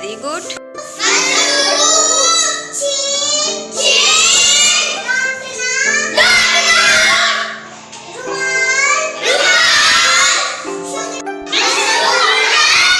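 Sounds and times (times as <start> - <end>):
young voices singing: 0.8 - 12.9.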